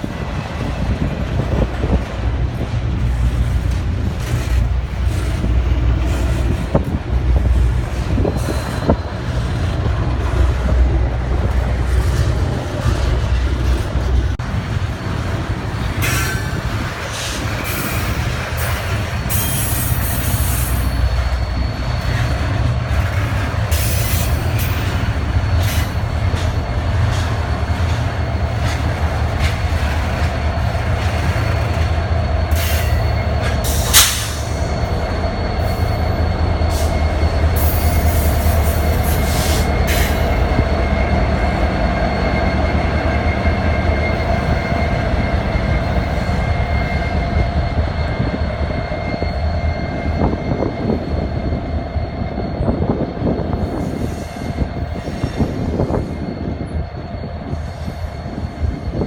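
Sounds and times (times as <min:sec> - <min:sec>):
train cars rumbling past: 0:00.0 - 0:59.0
wheel squeal: 0:03.0 - 0:14.1, 0:15.2 - 0:59.0.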